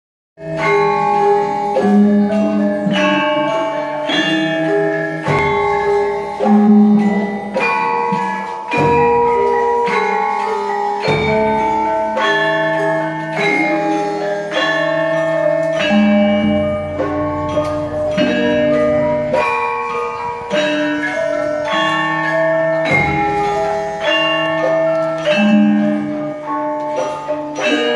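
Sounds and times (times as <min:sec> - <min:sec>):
metallophones ringing melody: 0:00.4 - 0:27.9.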